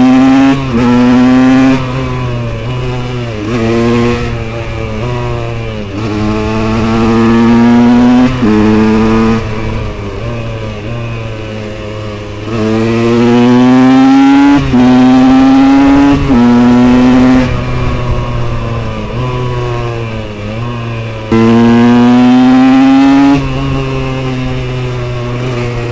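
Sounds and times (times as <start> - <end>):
two-stroke motorcycle engine accelerating: 0.0 - 25.9.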